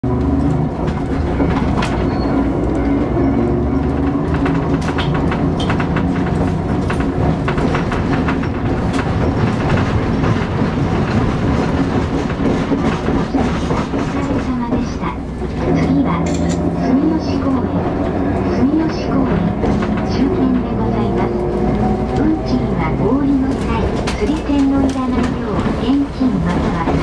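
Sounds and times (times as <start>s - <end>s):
tram motor growling hum: 0.0s - 27.0s
wheels clicking and rattling: 0.1s - 27.0s.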